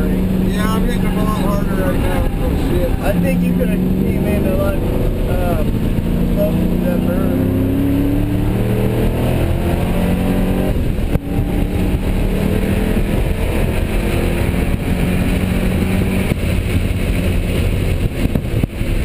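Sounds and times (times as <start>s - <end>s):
car engine running hard: 0.0s - 19.0s
road and wind noise: 0.0s - 19.0s.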